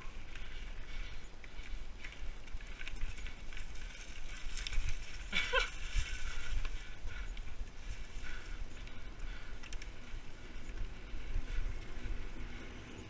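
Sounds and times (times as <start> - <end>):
bike clicks and rattles: 0.0 - 13.0
bike tyres on dirt trail: 0.0 - 13.0
wind buffeting microphone: 0.0 - 13.0.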